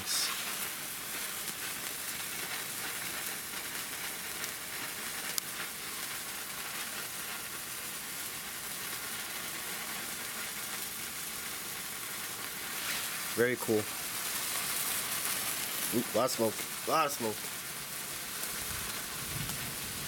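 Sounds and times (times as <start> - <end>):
sparklers fizzing: 0.0 - 20.0.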